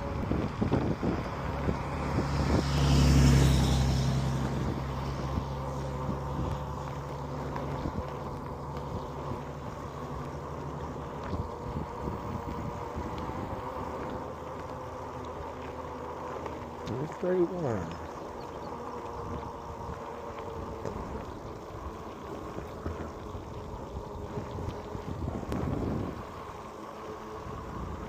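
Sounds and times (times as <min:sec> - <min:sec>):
vehicle engine passing by: 0:00.0 - 0:28.0.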